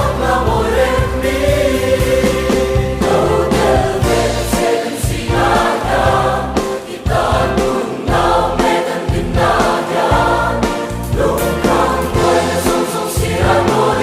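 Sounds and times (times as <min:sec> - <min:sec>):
band with a steady beat: 0:00.0 - 0:14.0
choir singing: 0:00.0 - 0:14.0.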